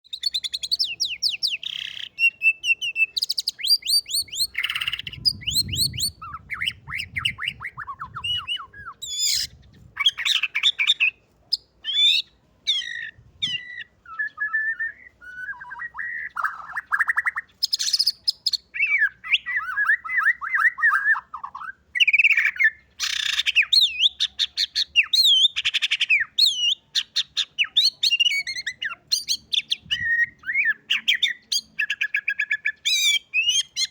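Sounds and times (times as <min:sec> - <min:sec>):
songbird singing trills and whistles: 0:00.0 - 0:33.9.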